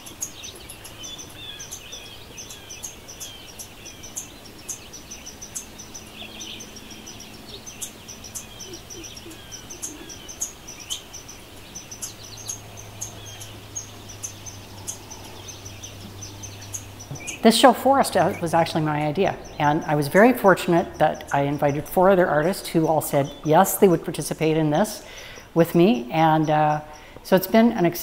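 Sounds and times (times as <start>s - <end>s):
birds singing and chirping: 0.0s - 28.0s
fast high ticking chirp: 0.0s - 28.0s.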